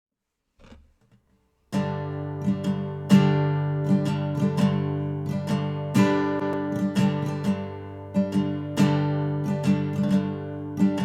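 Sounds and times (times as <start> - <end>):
acoustic guitar chord strummed: 1.7 - 11.0.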